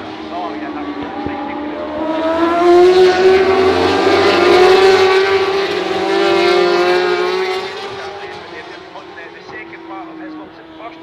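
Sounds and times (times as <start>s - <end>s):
racing motorcycles revving high: 0.0s - 11.0s.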